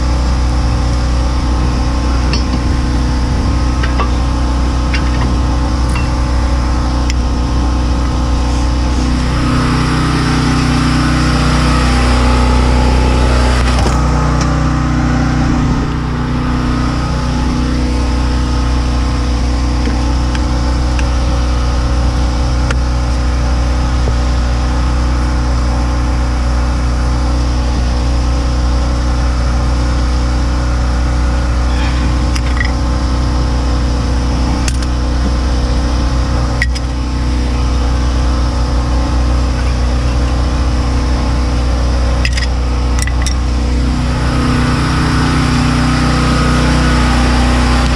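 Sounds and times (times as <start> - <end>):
low engine hum: 0.0 - 47.9
noisy rush: 0.0 - 47.9.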